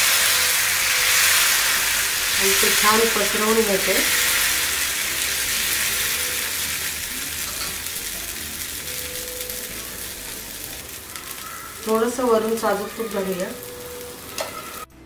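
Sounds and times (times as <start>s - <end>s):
batter sizzling on a hot griddle: 0.0s - 14.9s.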